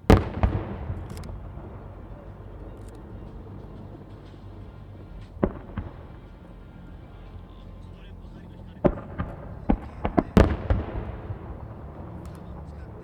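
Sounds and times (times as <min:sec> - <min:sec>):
firework shells bursting: 0:00.0 - 0:13.0
low background rumble: 0:00.0 - 0:13.0
sharp bangs: 0:00.0 - 0:13.0.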